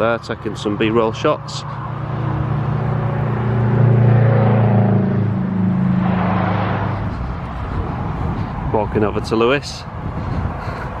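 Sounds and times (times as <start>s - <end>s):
vehicle engine passing: 0.0s - 9.3s.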